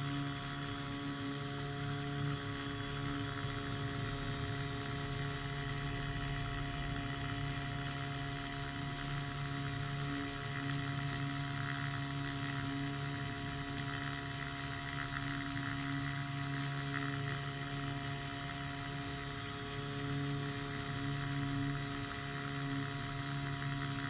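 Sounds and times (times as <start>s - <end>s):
piston engine and propeller drone: 0.0s - 24.0s.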